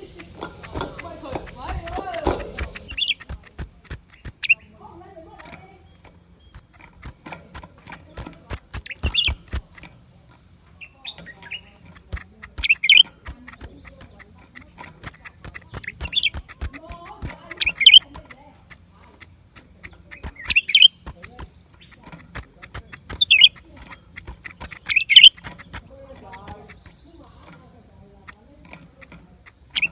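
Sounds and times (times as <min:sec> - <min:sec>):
bird calling in quavering phrases: 0:00.0 - 0:29.9
sharp bird clicks: 0:00.0 - 0:29.9.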